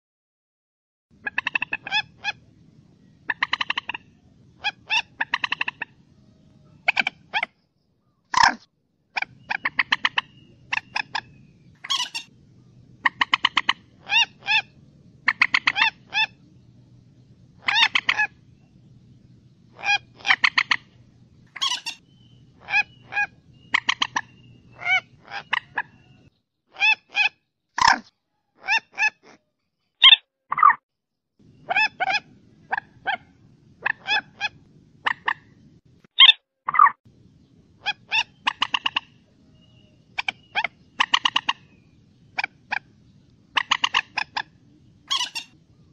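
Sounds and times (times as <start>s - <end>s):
moorhen calling: 1.2s - 28.0s, 30.0s - 30.8s, 31.4s - 35.6s, 36.2s - 45.9s.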